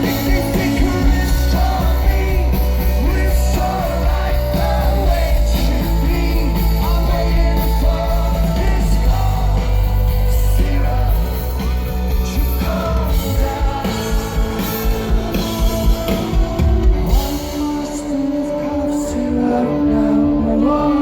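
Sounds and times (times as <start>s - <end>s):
man singing: 0.0s - 21.0s
rock band playing live: 0.0s - 21.0s.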